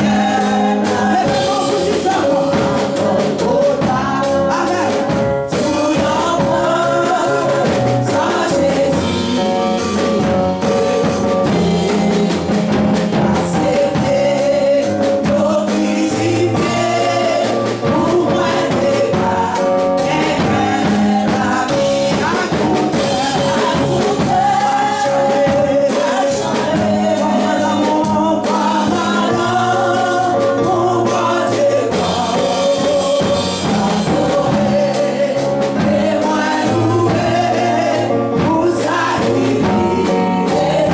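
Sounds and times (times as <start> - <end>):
drum kit: 0.0 - 40.9
gospel music: 0.0 - 40.9
group singing: 0.0 - 40.9.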